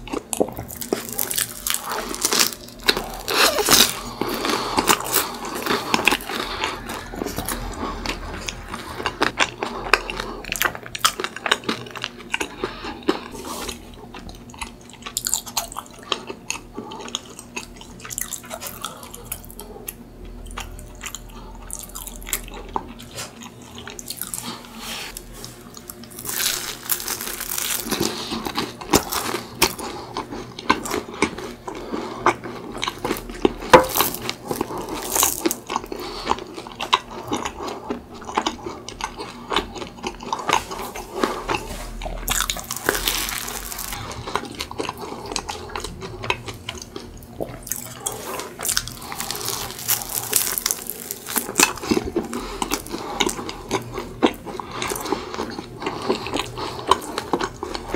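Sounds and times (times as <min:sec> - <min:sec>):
crunching and chewing: 0:00.0 - 0:57.9.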